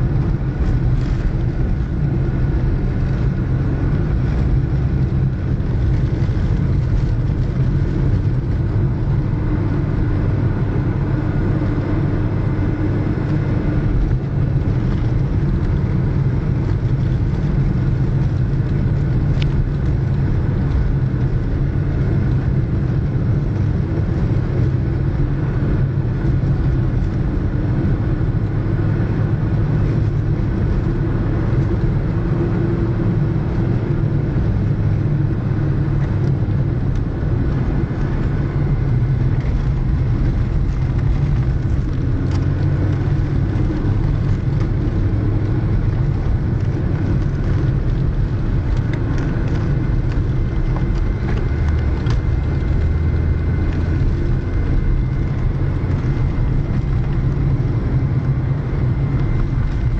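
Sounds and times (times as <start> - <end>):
car engine drone: 0.0 - 59.9
tyre and road rumble: 0.0 - 59.9.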